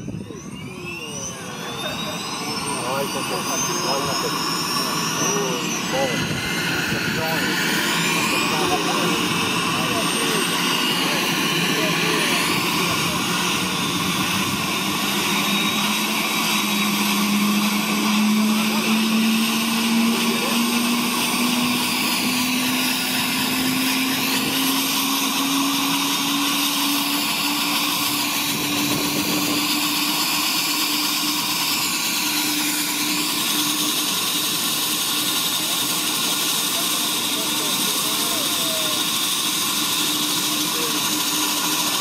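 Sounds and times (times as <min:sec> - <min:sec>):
helicopter turbine whine: 0:00.0 - 0:42.0
engine hiss: 0:00.1 - 0:42.0.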